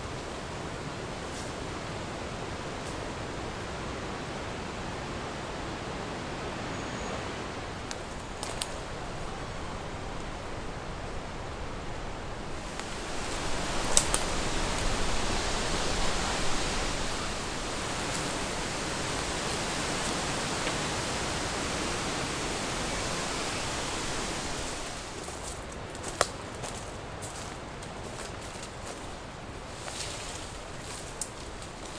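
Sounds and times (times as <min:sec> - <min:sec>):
wind rushing through leaves: 0:00.0 - 0:31.9.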